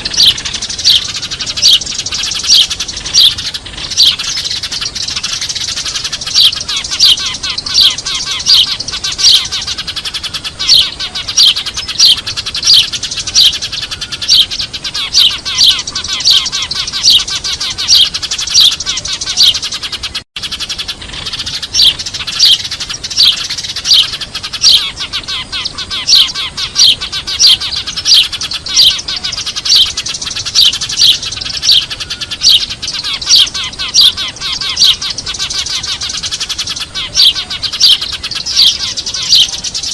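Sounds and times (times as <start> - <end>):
sparrows chirping in a flock: 0.0 - 39.9.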